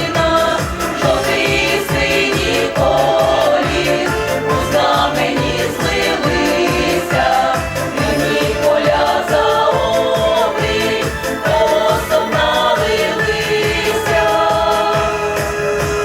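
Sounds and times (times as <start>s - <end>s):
group singing: 0.0s - 15.9s
instrumental backing track: 0.0s - 16.0s.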